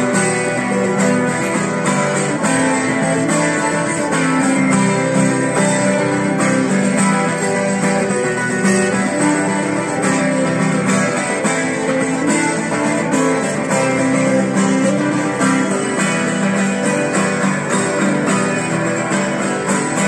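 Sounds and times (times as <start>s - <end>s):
guitar strumming: 0.0s - 20.0s.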